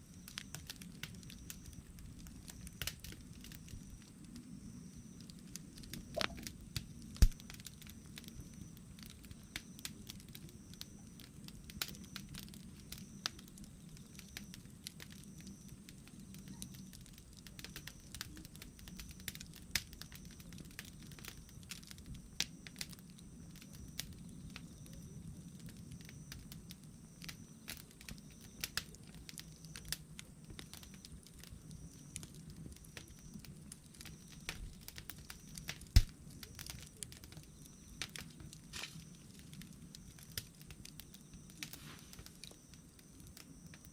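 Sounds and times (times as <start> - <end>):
fire pops and snaps: 0.0 - 43.9
wood fire crackling: 0.0 - 43.9.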